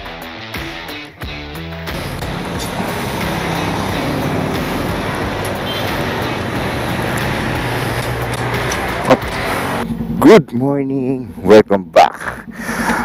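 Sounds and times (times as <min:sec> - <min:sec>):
road traffic: 0:00.7 - 0:13.0.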